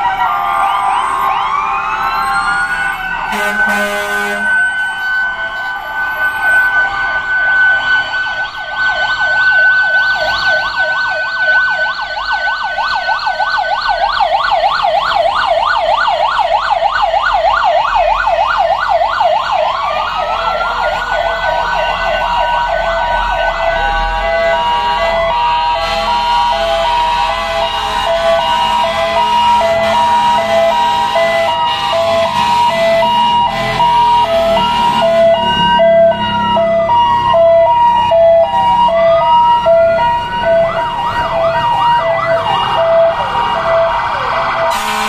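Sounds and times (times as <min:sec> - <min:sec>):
siren wailing: 0:00.0 - 0:45.0
siren yelping: 0:00.0 - 0:45.0.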